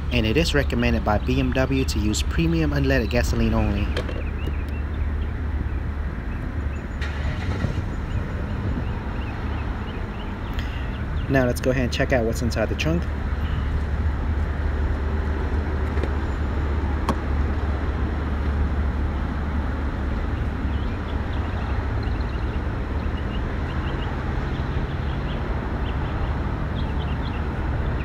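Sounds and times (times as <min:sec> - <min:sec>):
traffic rumble: 0:00.0 - 0:28.0
wind: 0:00.0 - 0:28.0.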